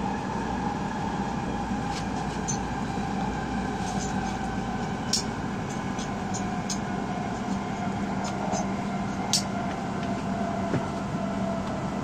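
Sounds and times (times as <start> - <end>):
train running rumble and hum: 0.0 - 12.0.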